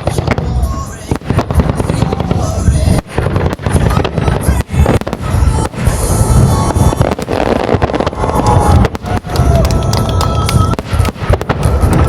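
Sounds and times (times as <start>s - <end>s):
fireworks booms and bangs: 0.0s - 12.0s
music playing: 0.0s - 12.0s.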